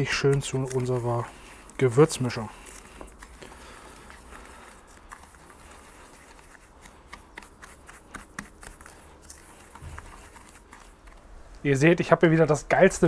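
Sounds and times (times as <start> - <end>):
spatula scraping spice in bowl: 0.0 - 11.2.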